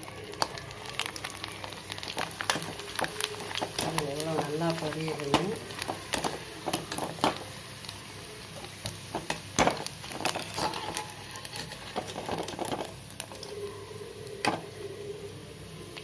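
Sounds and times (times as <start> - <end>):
oil crackles and pops: 0.0 - 14.7
deep-frying sizzle: 0.0 - 16.0.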